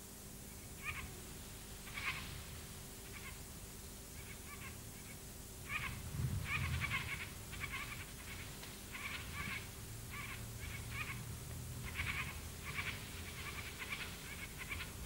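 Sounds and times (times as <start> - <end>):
birds nasal calls: 0.7 - 1.2, 1.8 - 2.4, 3.0 - 3.5, 4.1 - 15.0.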